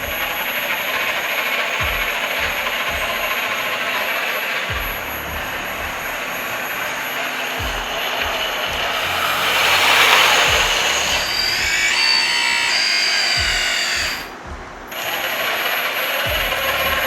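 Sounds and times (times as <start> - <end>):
hydraulic pump whining hiss: 0.0 - 17.0.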